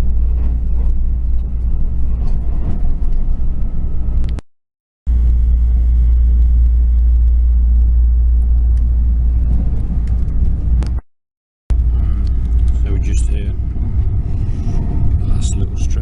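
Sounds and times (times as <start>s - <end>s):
train rumble inside carriage: 0.0s - 4.4s, 5.1s - 11.0s, 11.7s - 16.0s.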